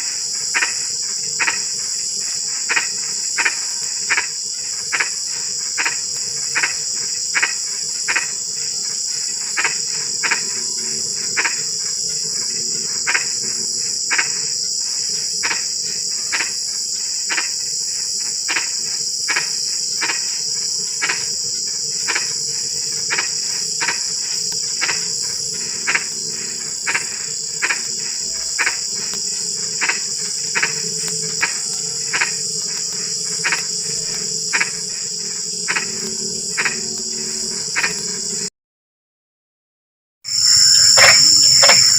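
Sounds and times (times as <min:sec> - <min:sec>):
frogs croaking: 0:00.0 - 0:38.5, 0:40.3 - 0:41.9
insect chorus: 0:00.0 - 0:38.5, 0:40.3 - 0:41.9.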